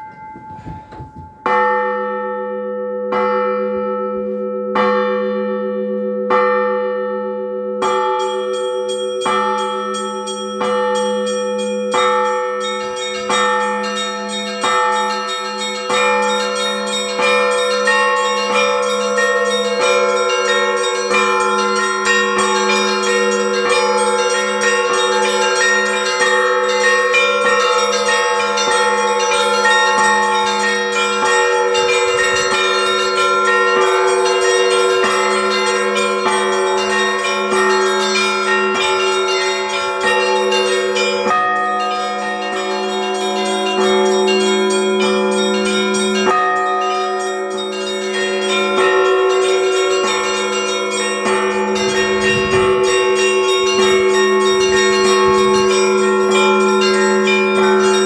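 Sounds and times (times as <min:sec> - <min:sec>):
church bells ringing: 0:00.0 - 0:58.0
low bell hum: 0:00.0 - 0:58.0.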